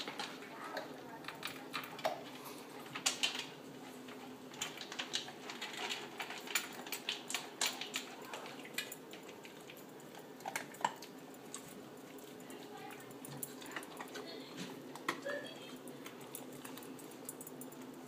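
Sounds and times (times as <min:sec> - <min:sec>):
dog crunching kibble: 0:00.0 - 0:18.0.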